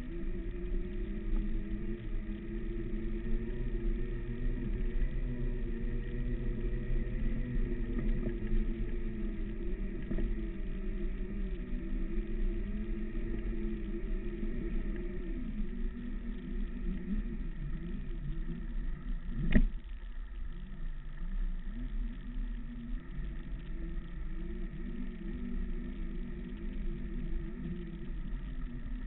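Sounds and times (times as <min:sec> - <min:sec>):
low rumble of riding: 0:00.0 - 0:29.0.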